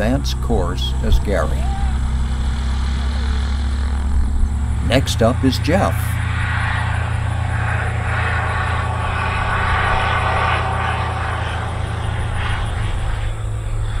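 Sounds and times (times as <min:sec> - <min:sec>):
light plane engine and propeller drone: 0:00.0 - 0:14.0.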